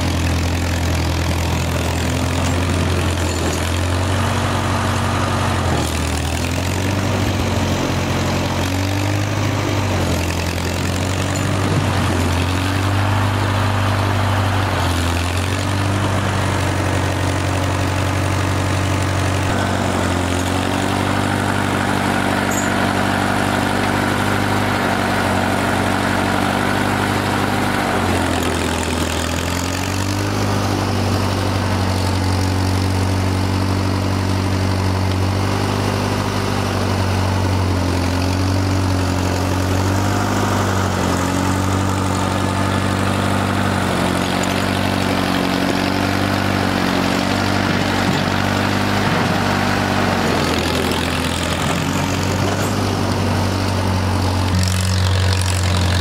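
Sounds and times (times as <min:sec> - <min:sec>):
loader bucket pushing snow: 0:00.0 - 0:56.0
tractor engine under load: 0:00.0 - 0:56.0.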